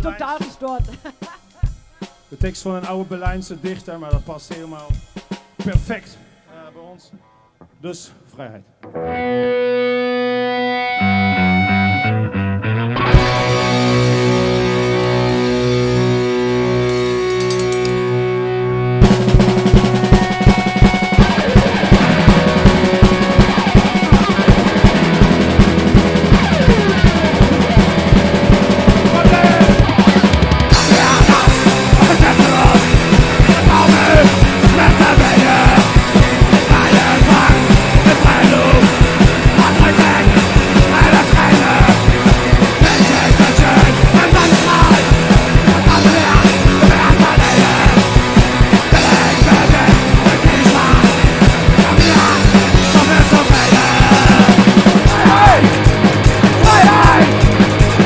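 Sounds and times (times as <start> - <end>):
bass guitar: 0.0 - 3.5, 8.8 - 58.0
drum kit: 0.0 - 7.2, 12.9 - 58.0
electric guitar: 8.8 - 58.0.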